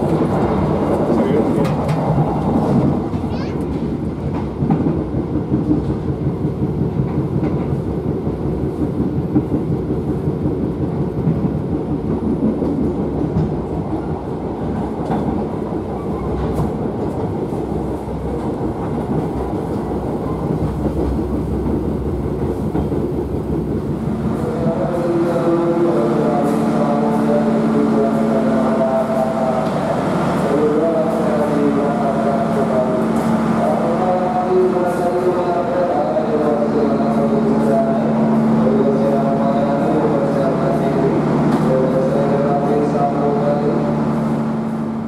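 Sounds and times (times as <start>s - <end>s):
train wheels running on rails: 0.0s - 45.0s.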